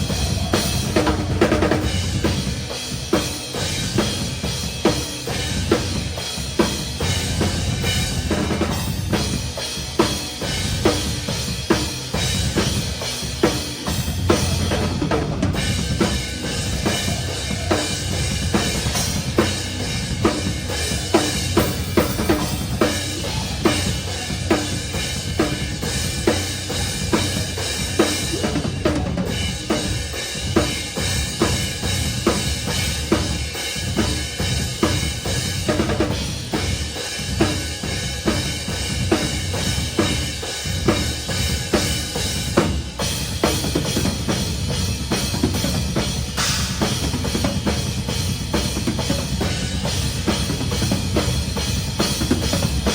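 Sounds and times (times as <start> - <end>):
drum kit beat: 0.0 - 52.9
metalcore band playing live: 0.0 - 52.9.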